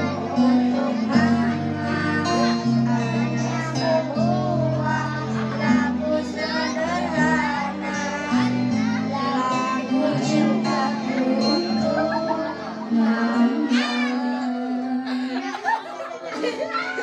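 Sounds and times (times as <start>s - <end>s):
boys singing: 0.0s - 17.0s
held chords accompaniment: 0.0s - 17.0s.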